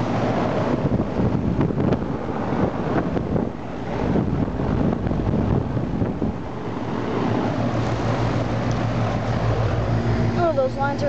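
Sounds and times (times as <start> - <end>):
air conditioner fan rushing: 0.0 - 11.0
steady low hum: 0.0 - 11.0.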